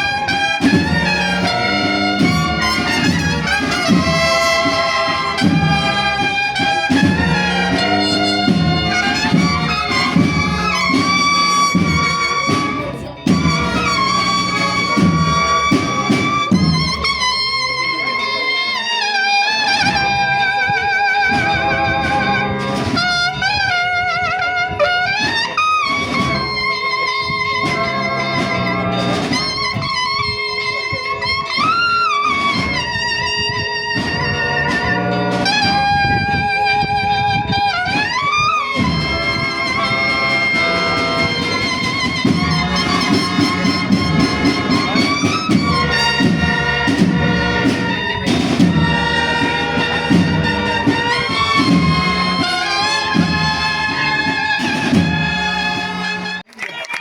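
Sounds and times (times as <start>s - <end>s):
trumpets playing a melody: 0.0s - 56.5s
brass band accompaniment: 0.0s - 57.0s.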